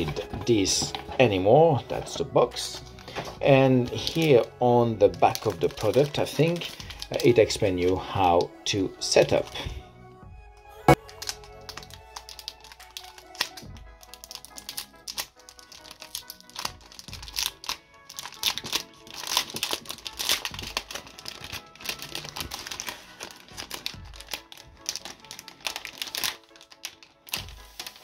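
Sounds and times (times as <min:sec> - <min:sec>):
packaging crinkling: 0:00.0 - 0:08.5, 0:10.9 - 0:28.0
background music: 0:00.0 - 0:28.0.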